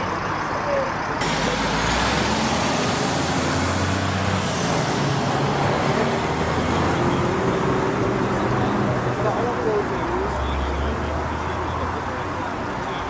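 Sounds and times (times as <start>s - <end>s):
large vehicle engine passing: 0.0s - 13.0s
road traffic noise: 0.0s - 13.0s.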